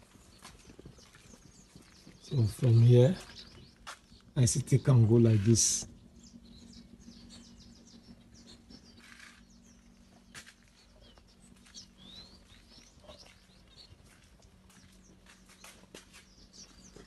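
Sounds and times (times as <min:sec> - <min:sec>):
birds chirping and whistling: 0:00.0 - 0:17.0
steady low hum: 0:00.0 - 0:17.0.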